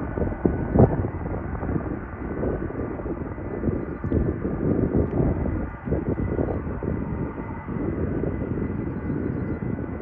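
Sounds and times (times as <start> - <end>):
distant jet engines whining: 0.0 - 10.0
wind buffeting microphone: 0.0 - 10.0.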